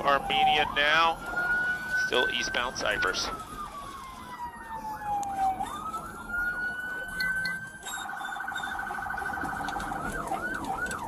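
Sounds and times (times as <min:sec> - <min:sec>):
faint second siren yelping: 0:00.0 - 0:11.0
police siren wailing: 0:00.0 - 0:11.0.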